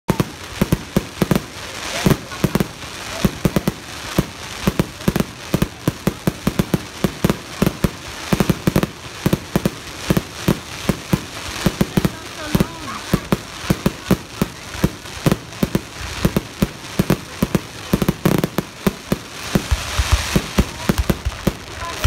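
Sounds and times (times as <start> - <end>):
crackling hiss: 0.1 - 22.0
firework bangs: 0.1 - 22.0.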